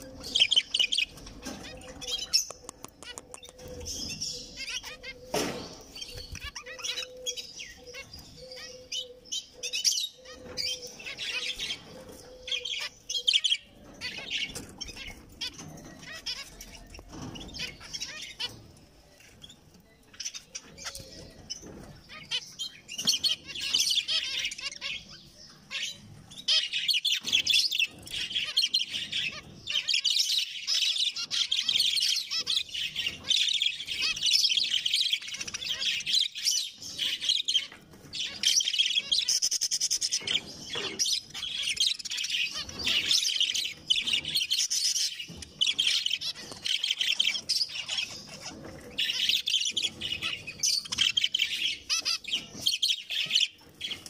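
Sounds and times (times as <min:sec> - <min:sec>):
finches chirping: 0:00.0 - 0:54.0.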